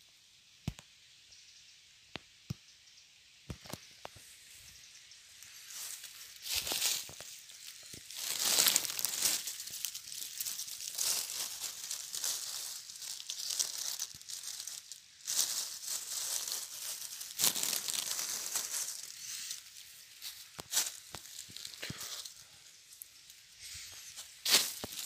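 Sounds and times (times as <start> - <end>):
dry leaves rustling: 3.7 - 25.0.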